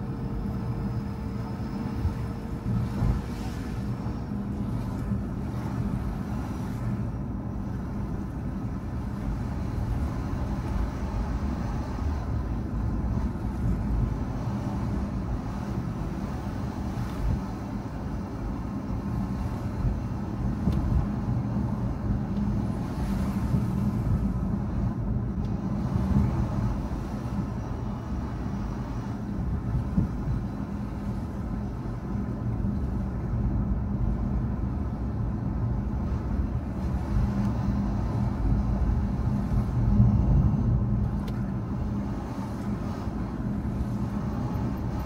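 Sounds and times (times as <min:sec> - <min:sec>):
car engine hum: 0:00.0 - 0:45.0.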